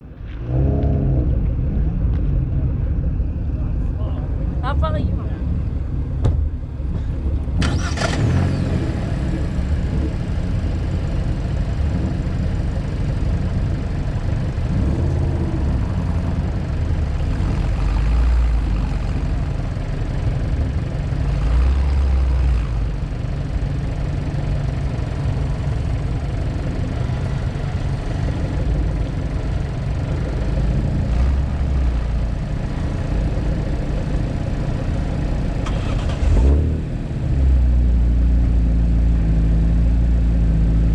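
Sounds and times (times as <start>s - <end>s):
car engine running at low revs: 0.0s - 40.9s.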